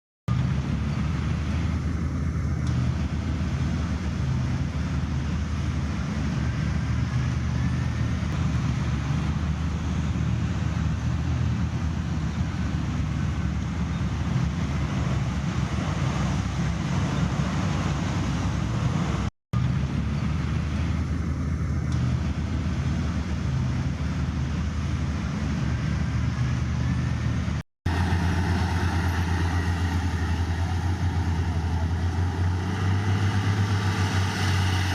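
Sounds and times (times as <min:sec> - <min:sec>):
diesel machinery engine rumble: 0:00.3 - 0:34.9.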